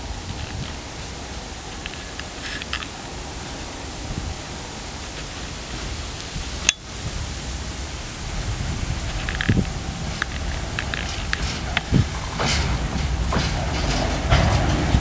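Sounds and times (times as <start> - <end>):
freight wagons rumbling: 0.0 - 15.0
wind on microphone: 0.0 - 15.0.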